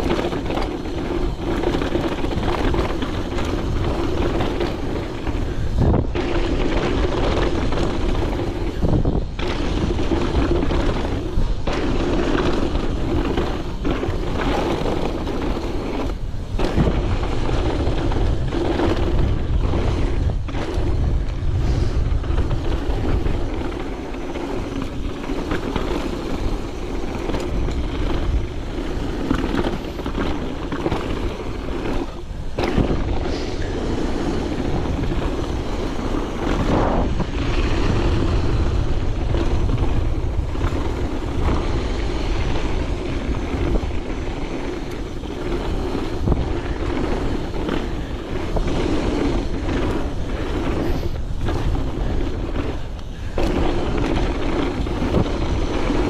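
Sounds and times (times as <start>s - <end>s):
bike clicks and rattles: 0.0s - 56.0s
bike tyre roar on dirt: 0.0s - 56.0s
wind buffeting microphone: 0.0s - 56.0s.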